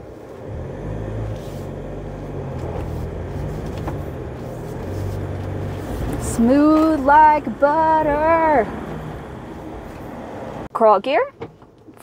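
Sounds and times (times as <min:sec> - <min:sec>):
vehicle engine pulling under load: 0:00.0 - 0:10.7.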